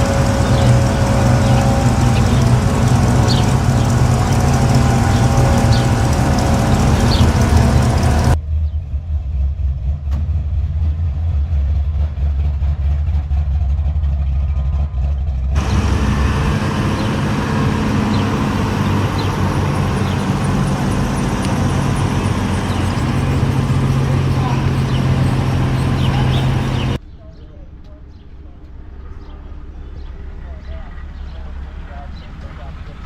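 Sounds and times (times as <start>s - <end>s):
car engines rumbling: 0.0s - 33.0s.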